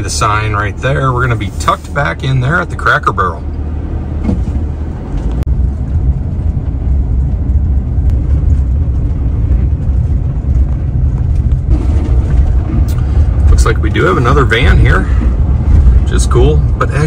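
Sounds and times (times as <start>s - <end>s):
van engine and tyre rumble: 0.0s - 17.0s.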